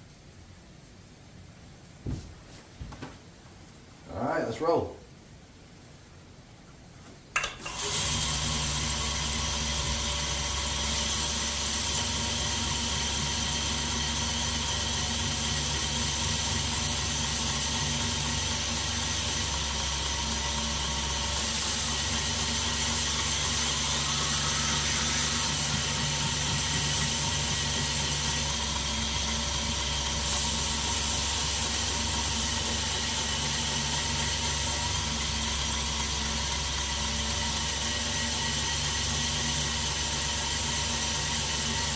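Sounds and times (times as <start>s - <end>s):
belt grinder motor humming: 7.6s - 41.9s
abrasive belt hissing: 7.8s - 41.9s.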